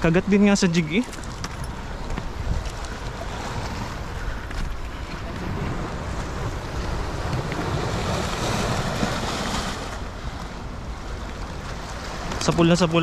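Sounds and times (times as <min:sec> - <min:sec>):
waves washing on rocky shore: 0:00.0 - 0:13.0
wind buffeting microphone: 0:00.0 - 0:13.0.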